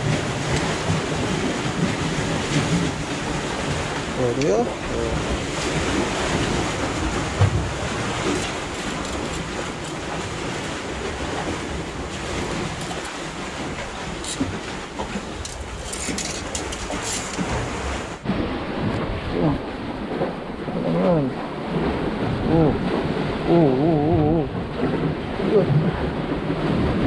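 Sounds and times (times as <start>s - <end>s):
water churning between blocks: 0.0s - 27.0s.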